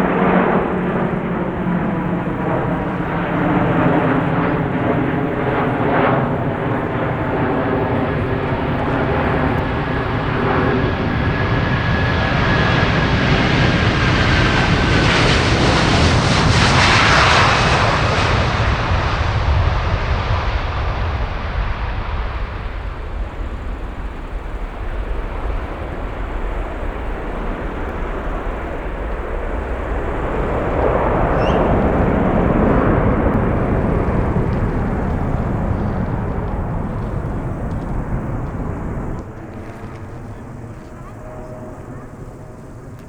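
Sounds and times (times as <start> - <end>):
jet airliner engines passing: 0.0 - 43.0.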